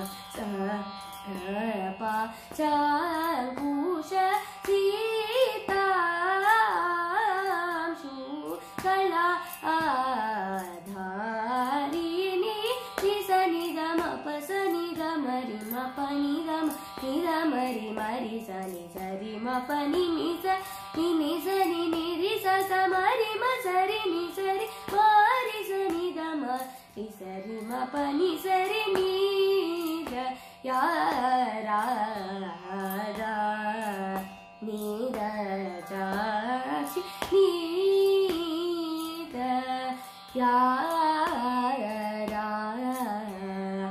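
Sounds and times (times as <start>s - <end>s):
girl singing: 0.0s - 43.9s.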